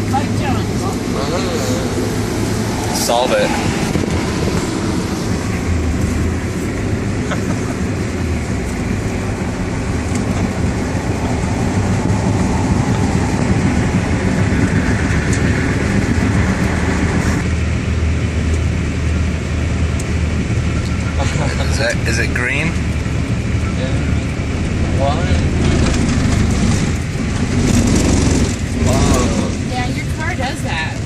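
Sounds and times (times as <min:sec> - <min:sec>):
car engine low hum: 0:00.0 - 0:31.0
road noise hiss: 0:00.0 - 0:31.0.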